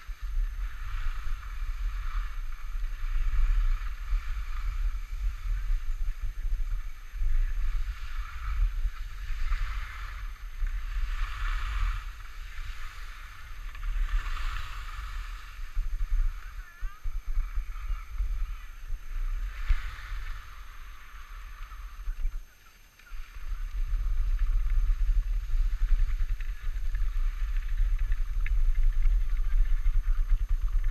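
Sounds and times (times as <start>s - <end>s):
skis scraping on snow: 0.0s - 30.9s
wind buffeting microphone: 0.0s - 30.9s.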